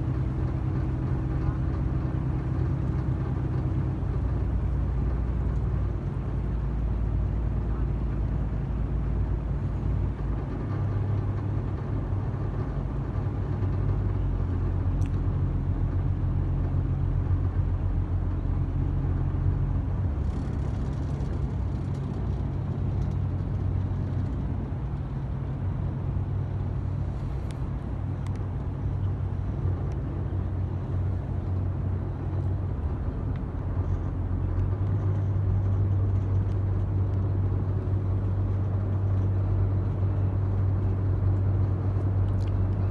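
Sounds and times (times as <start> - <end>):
boat engine droning: 0.0 - 42.9.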